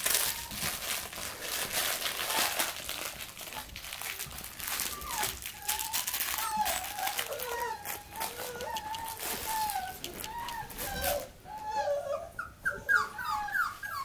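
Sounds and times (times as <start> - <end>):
puppy whining: 0.0 - 1.2, 2.0 - 14.0
puppies scuffling on blankets: 0.0 - 11.9.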